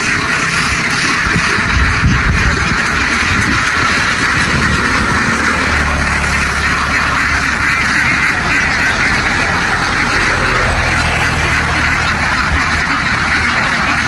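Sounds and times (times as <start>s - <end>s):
flock of ducks quacking: 0.0s - 14.0s
low engine hum: 0.0s - 14.0s.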